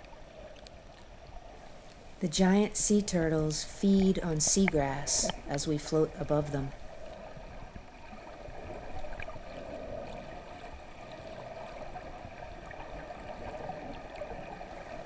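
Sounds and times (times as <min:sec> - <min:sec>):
muffled underwater water hiss: 0:00.0 - 0:15.0.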